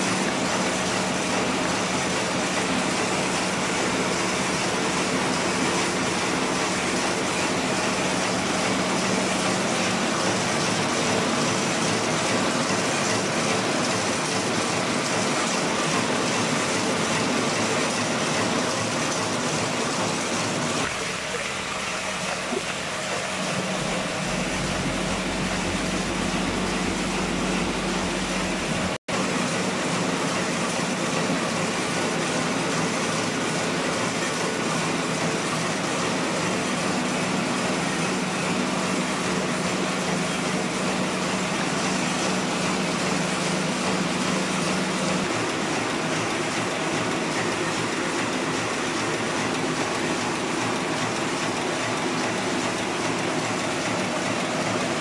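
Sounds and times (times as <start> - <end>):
printing press mechanical clatter: 0.0 - 55.0.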